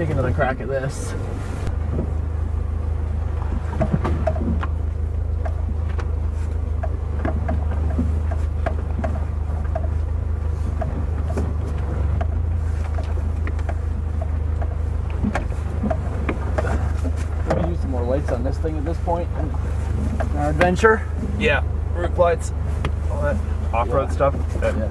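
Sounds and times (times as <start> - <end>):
car engine droning: 0.0 - 24.9.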